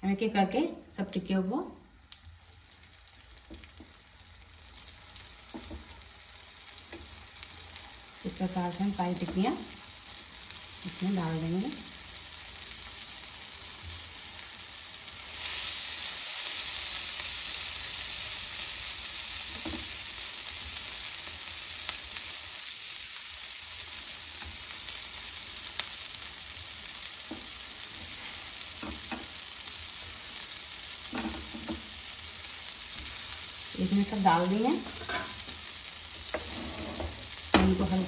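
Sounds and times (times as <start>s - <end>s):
patties sizzling in oil: 0.0s - 38.0s.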